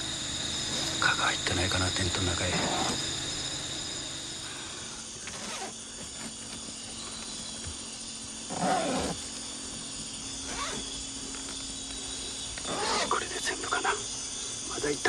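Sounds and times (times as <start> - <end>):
insects chirping shrilly: 0.0 - 15.0.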